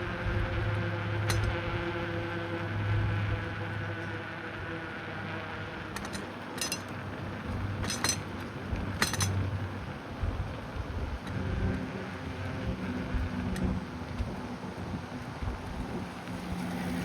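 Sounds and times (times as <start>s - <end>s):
bicycle rattling metallically: 0.0s - 17.0s
steady low hum: 0.0s - 17.0s.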